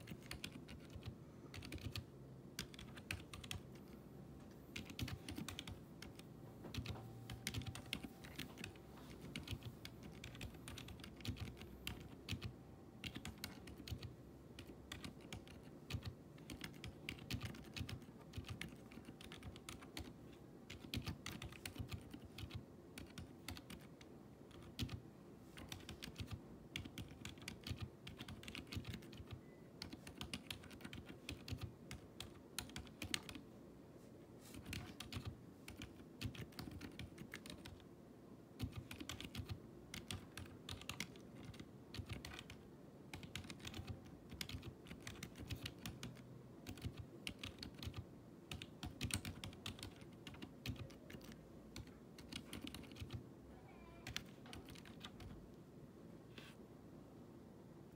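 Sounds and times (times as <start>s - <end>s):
mechanical keyboard typing: 0.0s - 4.0s, 4.7s - 33.4s, 34.5s - 37.8s, 38.6s - 53.2s, 54.0s - 55.4s.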